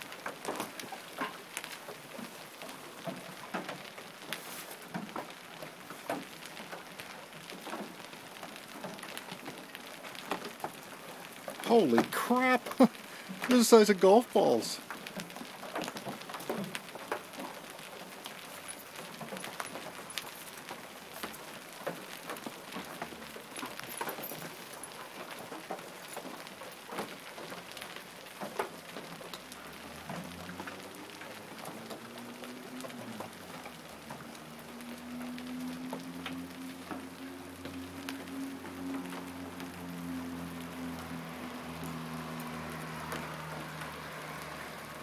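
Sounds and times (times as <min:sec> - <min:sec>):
hail pattering: 0:00.0 - 0:45.0
hailstones knocking: 0:00.0 - 0:45.0.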